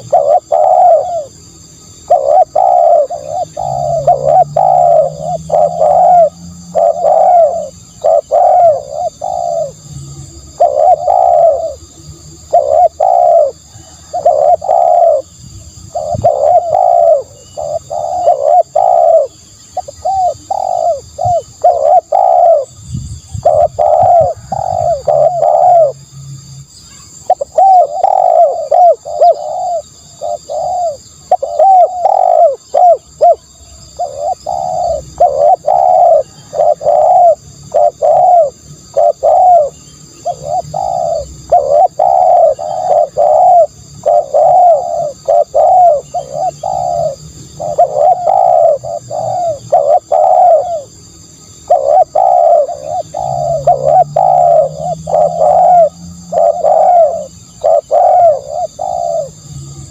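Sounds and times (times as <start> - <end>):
dove cooing: 0.0 - 26.0, 26.9 - 59.9.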